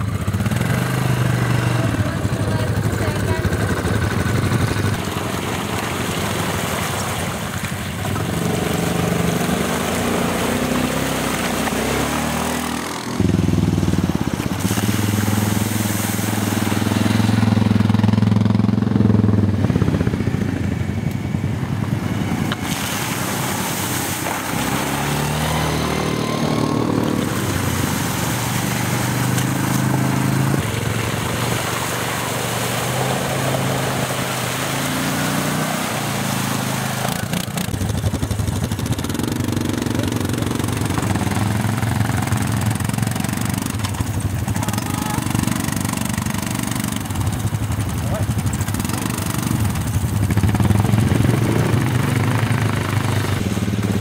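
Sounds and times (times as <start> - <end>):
quad bike engines revving: 0.0 - 54.0
splashing through mud puddles: 0.0 - 54.0.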